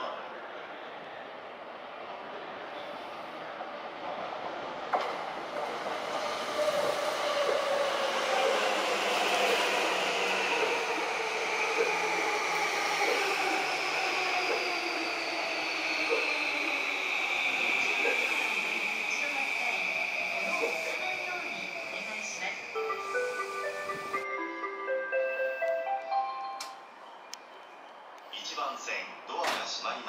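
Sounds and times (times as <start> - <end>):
electric train passing: 0.2 - 29.4.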